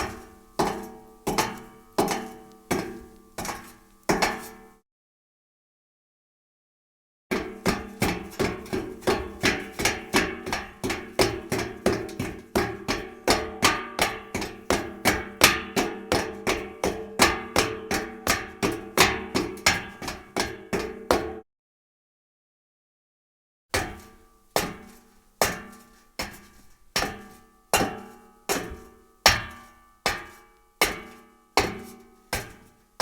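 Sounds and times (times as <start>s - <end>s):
footsteps on steel staircase: 0.0s - 4.8s, 7.3s - 21.4s, 23.8s - 32.8s.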